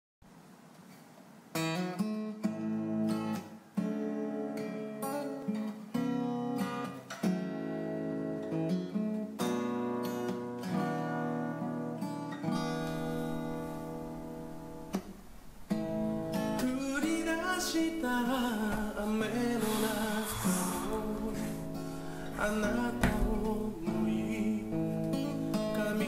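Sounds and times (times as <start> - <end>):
strummed acoustic guitar chords: 1.5 - 26.0.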